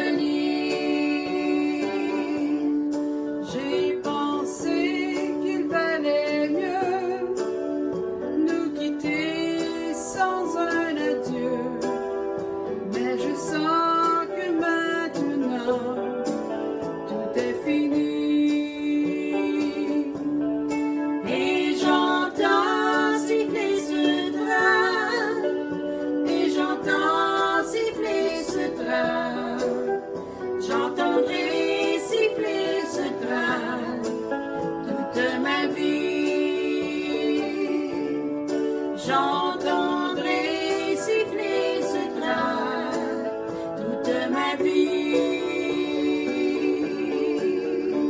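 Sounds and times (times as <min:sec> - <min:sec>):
instrumental accompaniment: 0:00.0 - 0:48.0
women singing with vibrato: 0:00.0 - 0:48.0.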